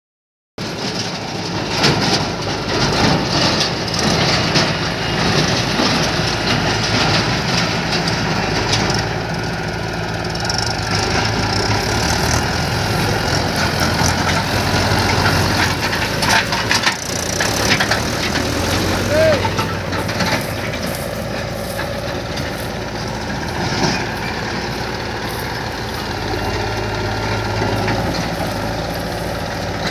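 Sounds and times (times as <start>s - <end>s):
tractor engines idling: 0.6s - 29.9s.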